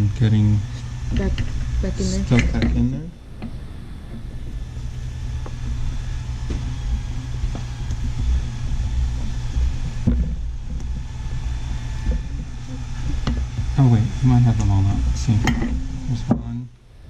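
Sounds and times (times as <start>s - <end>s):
low machine rumble: 0.0s - 17.0s.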